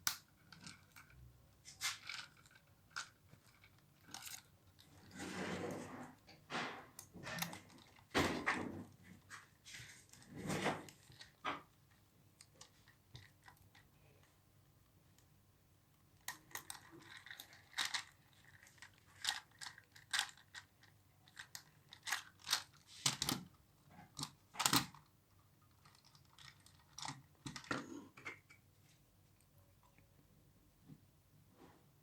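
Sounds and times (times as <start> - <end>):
plastic parts and packaging crinkling: 0.1 - 14.4, 16.0 - 27.8.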